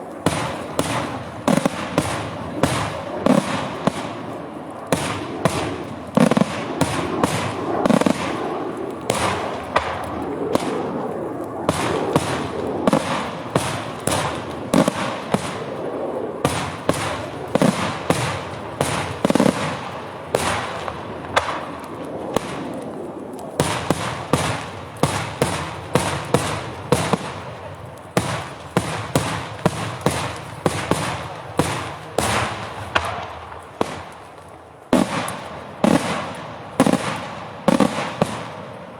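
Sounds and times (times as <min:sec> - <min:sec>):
rumble of explosions: 0:00.0 - 0:38.9
firecracker and shell bangs: 0:00.2 - 0:10.9, 0:11.7 - 0:15.8, 0:16.4 - 0:22.8, 0:23.6 - 0:38.9.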